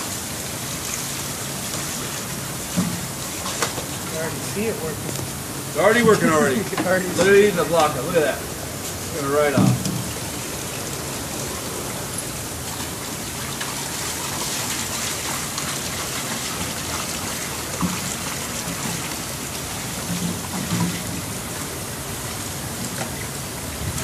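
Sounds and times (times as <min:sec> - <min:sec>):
liquid pouring and splashing: 0:00.0 - 0:24.0.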